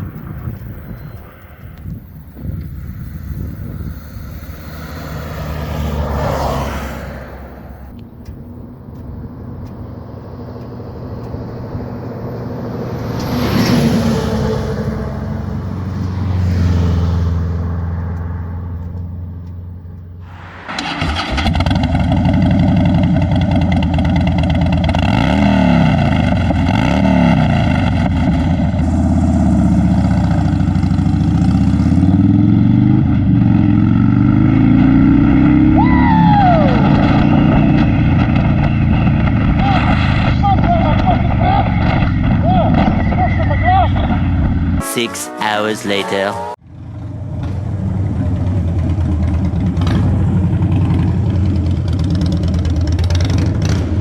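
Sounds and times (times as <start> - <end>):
motorcycle engine revving: 1.7 - 54.0.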